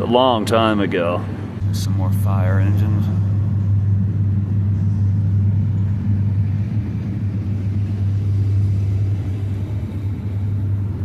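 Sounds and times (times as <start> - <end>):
low-pitched hum: 0.0 - 11.0.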